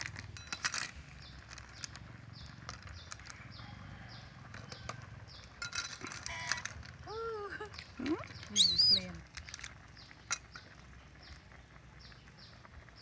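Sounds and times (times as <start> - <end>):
snail shells and ladle clinking: 0.0 - 12.9.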